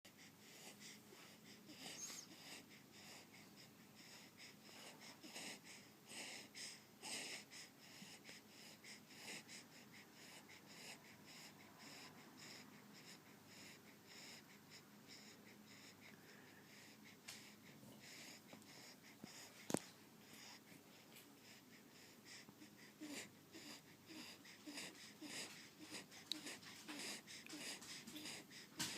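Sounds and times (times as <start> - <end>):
faint breathing of sleeper: 0.1 - 28.9.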